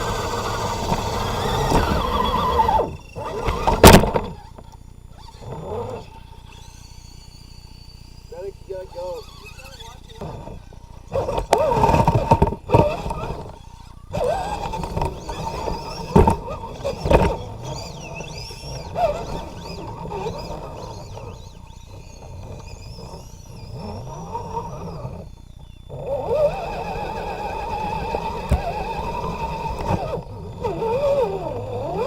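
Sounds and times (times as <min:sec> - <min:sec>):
toy truck motor whining: 0:00.0 - 0:32.0.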